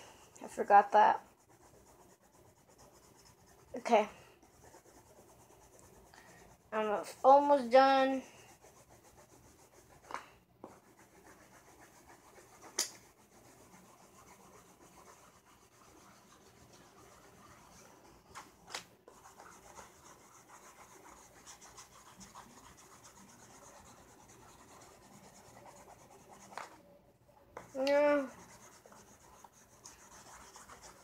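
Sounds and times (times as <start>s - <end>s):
coloring strokes on paper: 0.0s - 26.8s, 27.6s - 31.0s.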